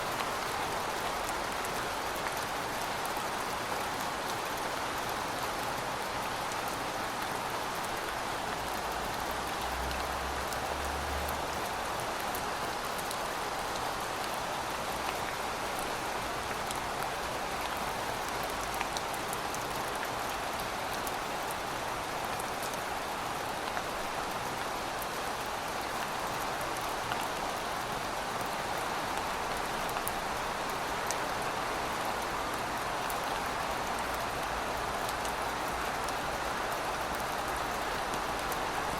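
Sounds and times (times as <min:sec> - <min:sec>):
rain falling on pavement: 0:00.0 - 0:38.9.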